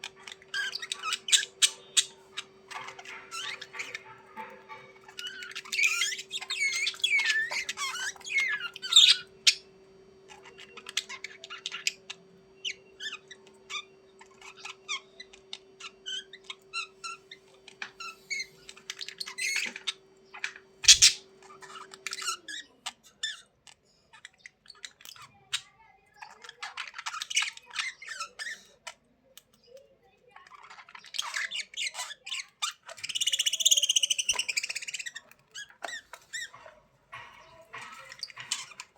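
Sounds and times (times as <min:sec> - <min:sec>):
budgerigars chirping: 0:00.0 - 0:09.7, 0:10.3 - 0:25.2, 0:30.6 - 0:38.9.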